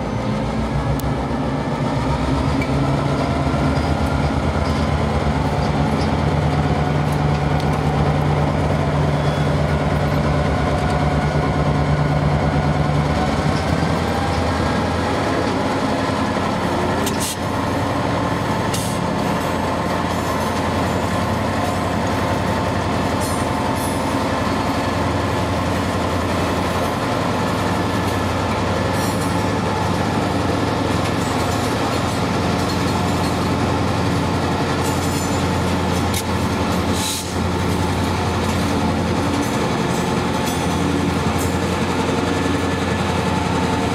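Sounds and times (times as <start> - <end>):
diesel train engine drone: 0.0 - 43.9
train wheels clicking on rails: 0.0 - 43.9.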